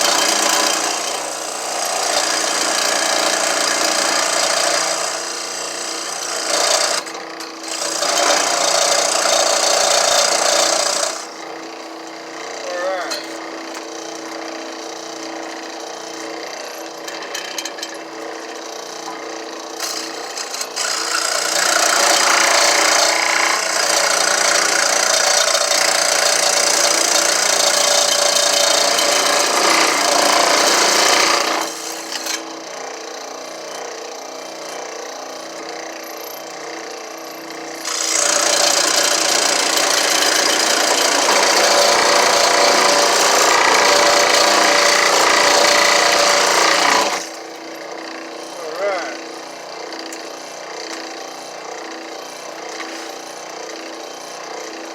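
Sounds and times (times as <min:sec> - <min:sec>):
saw cutting wood: 0:00.0 - 0:54.9.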